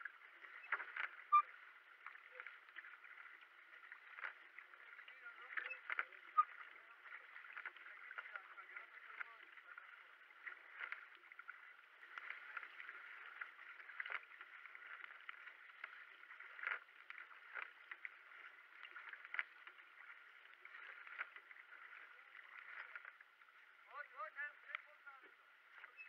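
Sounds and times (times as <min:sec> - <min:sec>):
paddle strokes in water: 0:00.0 - 0:26.0
water washing along hull: 0:00.0 - 0:26.0.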